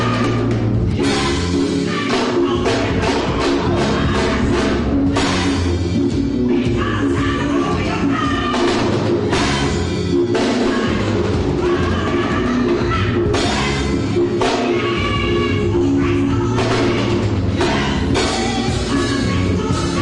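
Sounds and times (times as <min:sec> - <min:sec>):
choir singing: 0:00.0 - 0:20.0
drum kit: 0:00.0 - 0:20.0
live band playing: 0:00.0 - 0:20.0.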